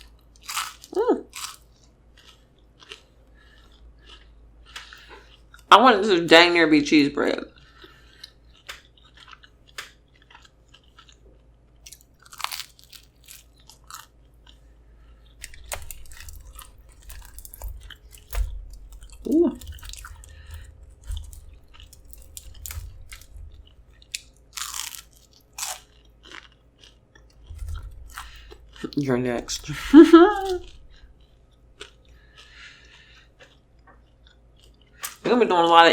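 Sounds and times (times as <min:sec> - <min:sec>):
crunchy chewing: 0:00.0 - 0:05.7, 0:07.5 - 0:35.3.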